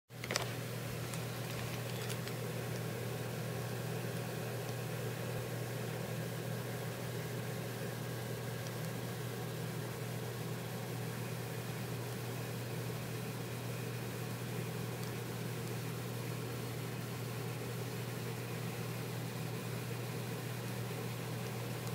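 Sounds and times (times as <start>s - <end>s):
constant hiss: 0.1s - 21.9s.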